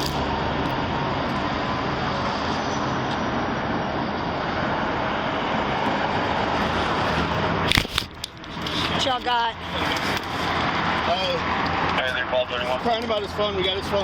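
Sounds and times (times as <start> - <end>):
vehicle noise: 0.0 - 14.0.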